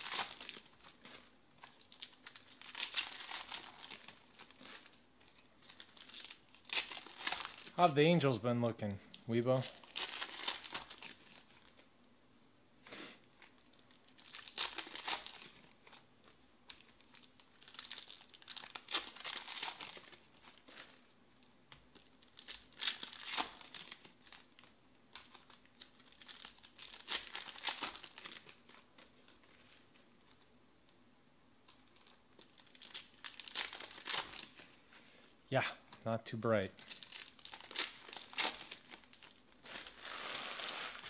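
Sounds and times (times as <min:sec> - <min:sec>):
plastic wrappers tearing and crinkling: 0:00.0 - 0:07.9, 0:09.5 - 0:11.9, 0:13.4 - 0:21.1, 0:21.9 - 0:30.4, 0:31.7 - 0:34.8, 0:36.8 - 0:41.0.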